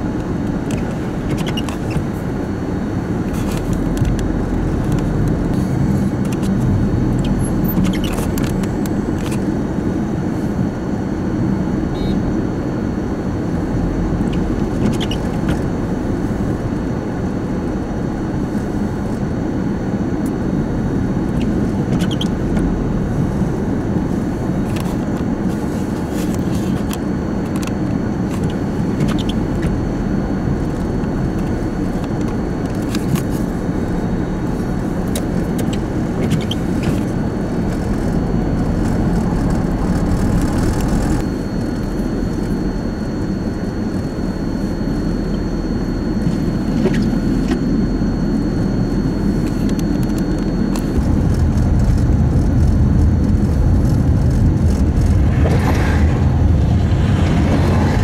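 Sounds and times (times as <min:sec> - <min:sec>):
highway traffic rumble: 0:00.0 - 0:58.0.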